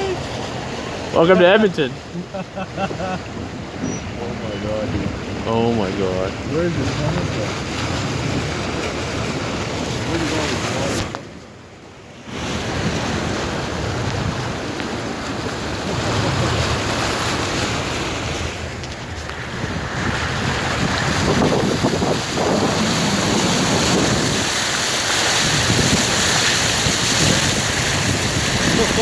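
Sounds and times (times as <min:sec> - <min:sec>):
water sloshing around tyres: 0:00.0 - 0:29.0
wind noise on microphone: 0:02.9 - 0:11.4, 0:12.2 - 0:29.0.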